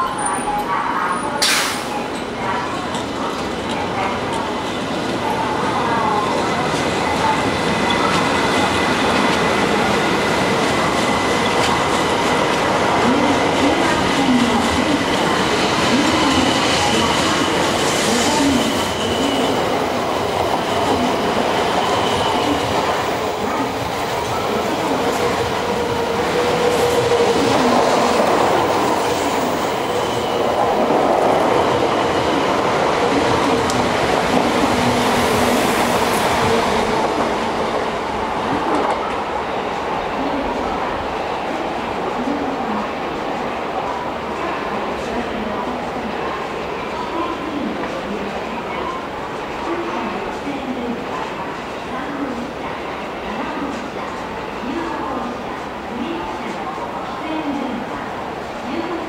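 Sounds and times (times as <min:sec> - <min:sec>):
train rolling past: 0:00.0 - 0:59.0.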